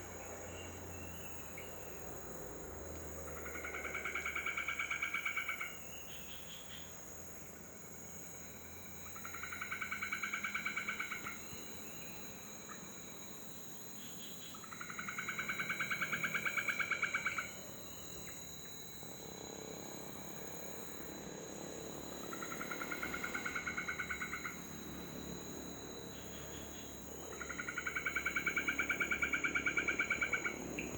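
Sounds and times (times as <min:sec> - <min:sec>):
high-pitched insect drone: 0:00.0 - 0:30.9.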